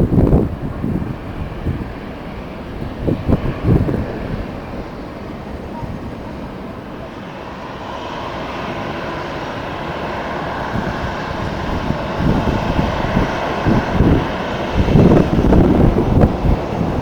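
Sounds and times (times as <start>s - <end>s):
airliner engines running: 0.0s - 17.0s
wind buffeting microphone: 0.0s - 17.0s.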